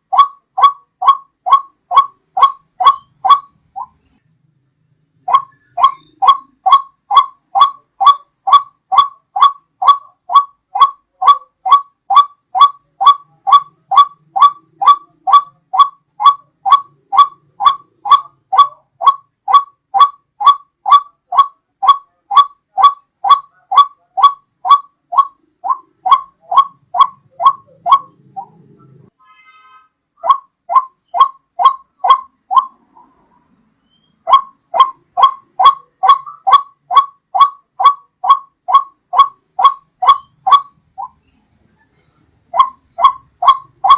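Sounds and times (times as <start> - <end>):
waterhen call: 0.0 - 4.1, 5.2 - 29.1, 30.2 - 33.2, 33.9 - 41.2, 42.5 - 43.9.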